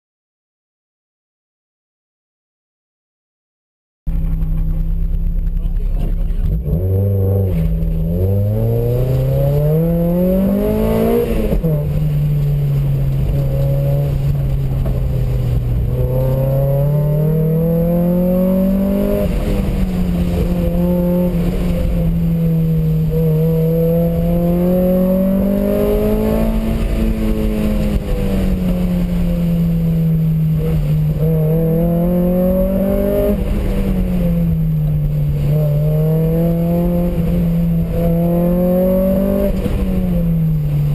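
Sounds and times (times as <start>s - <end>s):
car engine revving hard: 5.9s - 12.1s, 13.2s - 40.7s.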